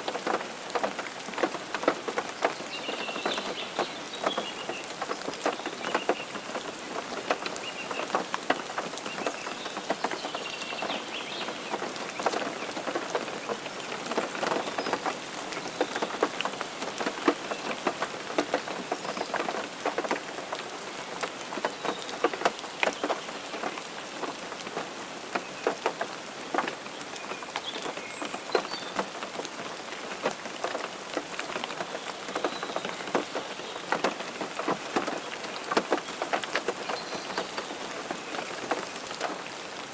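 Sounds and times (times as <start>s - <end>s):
rain and snow on a car: 0.0s - 39.9s.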